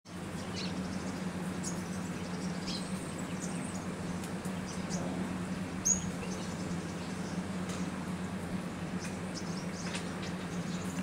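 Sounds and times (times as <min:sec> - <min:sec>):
small birds chirping: 0:00.1 - 0:11.0
steady low hum: 0:00.1 - 0:11.0.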